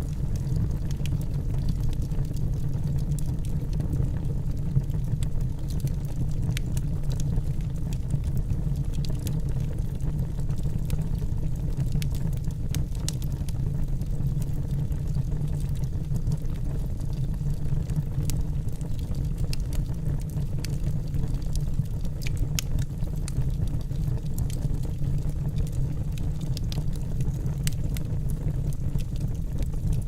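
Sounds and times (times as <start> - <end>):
logs crackling and popping: 0.0 - 30.0
low roar of flames: 0.0 - 30.0.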